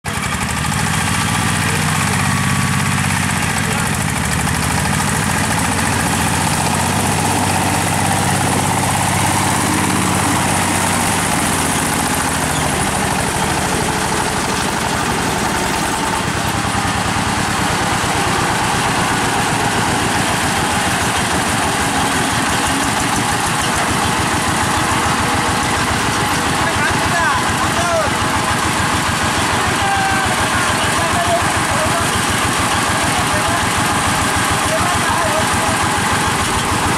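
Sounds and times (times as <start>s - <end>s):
single-cylinder diesel engine chugging: 0.0s - 36.9s.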